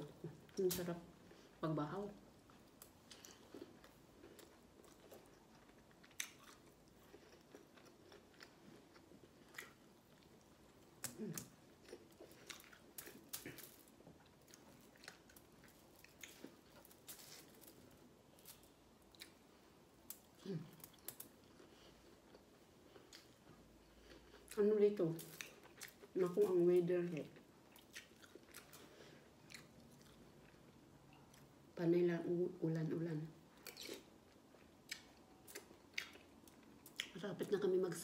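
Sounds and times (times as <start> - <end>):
person chewing food: 2.4 - 24.6, 25.2 - 26.3, 27.2 - 31.7, 33.5 - 37.2.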